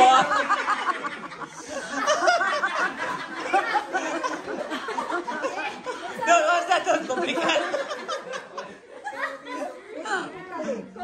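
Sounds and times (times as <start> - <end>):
people laughing and chattering: 0.0 - 11.0.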